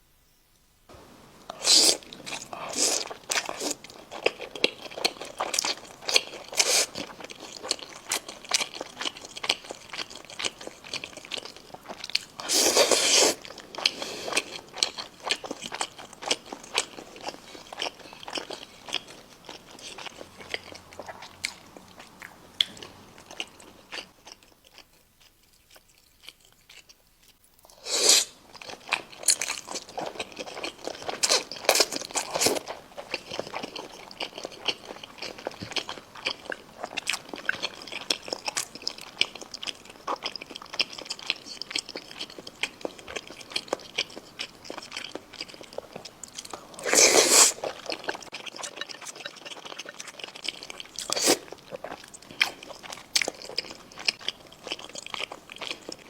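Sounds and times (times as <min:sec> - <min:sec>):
wet chewing and crunching: 0:01.6 - 0:56.0.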